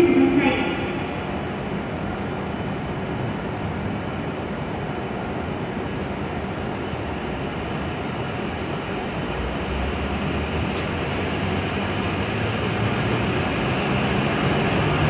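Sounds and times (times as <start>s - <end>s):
train hum and whir: 0.0s - 15.0s.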